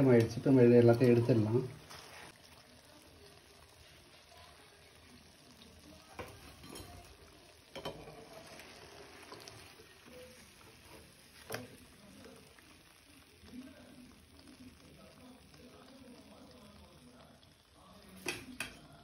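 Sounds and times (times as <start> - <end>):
faint sizzle of deep-frying: 0.0 - 19.0.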